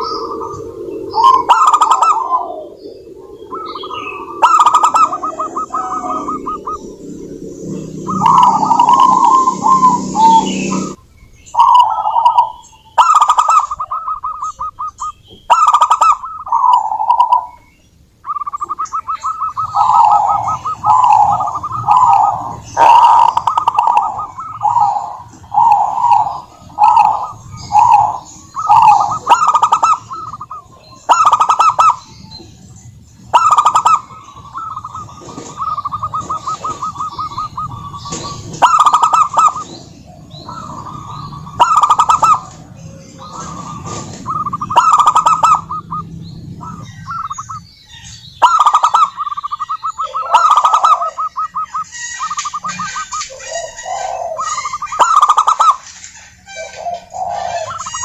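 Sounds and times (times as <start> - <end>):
dove cooing and trilling: 0.0 - 17.7, 18.3 - 58.0
low background hum: 0.0 - 58.0.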